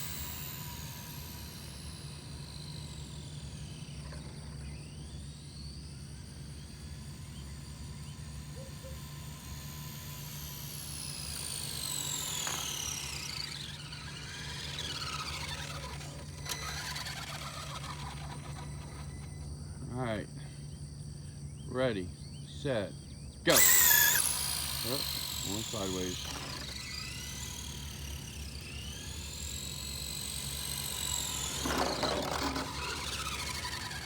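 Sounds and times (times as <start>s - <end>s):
rc car motor whining: 0.0s - 34.0s
steady low hum: 0.0s - 34.0s.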